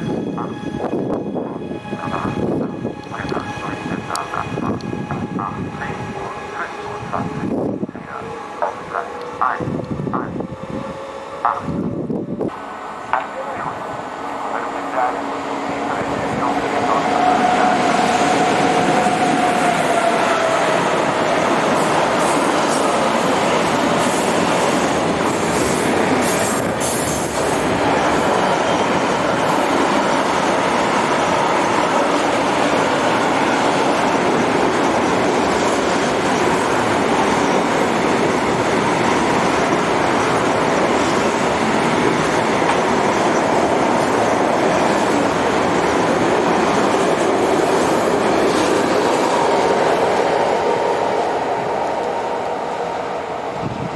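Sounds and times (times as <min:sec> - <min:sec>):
freight train wheels rolling on rail: 0:00.0 - 0:53.9.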